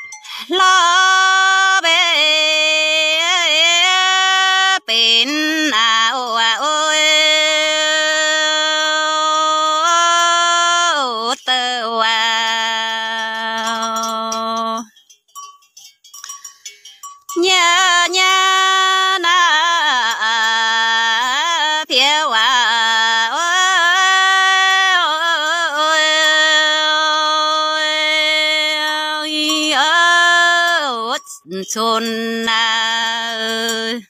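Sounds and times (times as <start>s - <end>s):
woman singing folk song: 0.0s - 15.0s, 17.2s - 34.0s.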